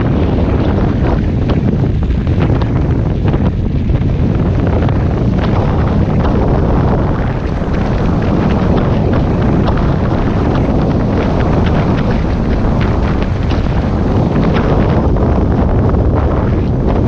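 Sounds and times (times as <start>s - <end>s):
small crackles: 0.0s - 17.0s
wind rumbling on microphone: 0.0s - 17.0s.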